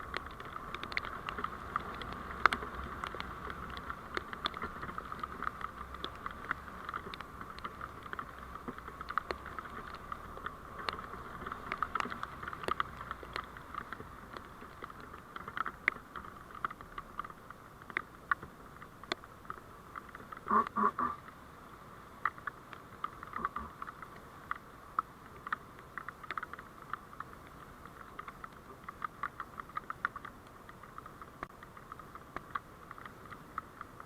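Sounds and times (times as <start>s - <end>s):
small irregular clicks: 0.0s - 34.0s.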